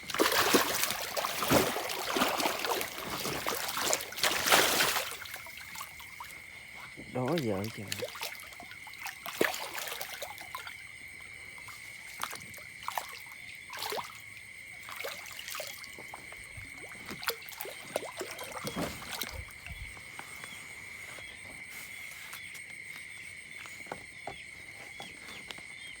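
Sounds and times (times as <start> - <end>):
water splashing and trickling: 0.0 - 21.5.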